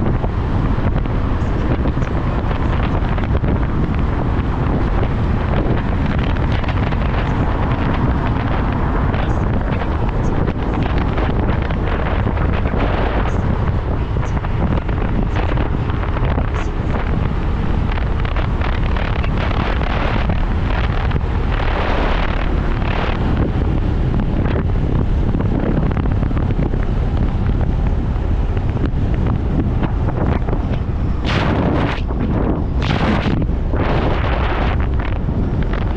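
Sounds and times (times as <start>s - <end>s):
road noise: 0.0s - 35.9s
wind rushing over microphone: 0.0s - 35.9s.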